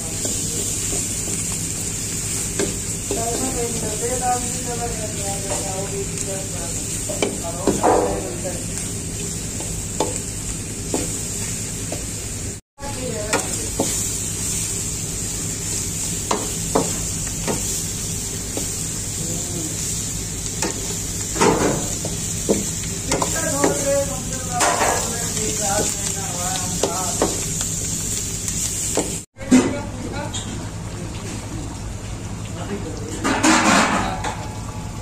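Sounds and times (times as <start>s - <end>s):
food sizzling in a wok: 0.0s - 35.0s.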